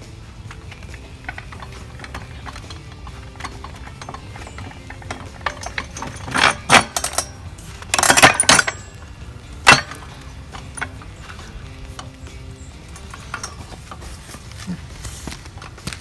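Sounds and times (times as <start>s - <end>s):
metal clicks and ratcheting: 0.4s - 16.0s
sharp metal knocks and scrapes: 0.6s - 16.0s.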